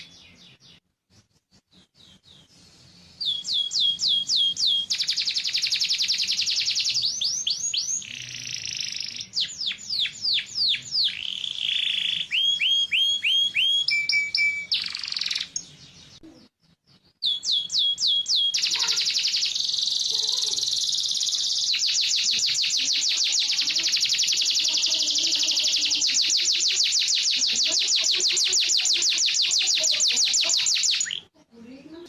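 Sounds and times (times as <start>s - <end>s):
canary singing: 0.0s - 0.8s, 1.7s - 31.3s.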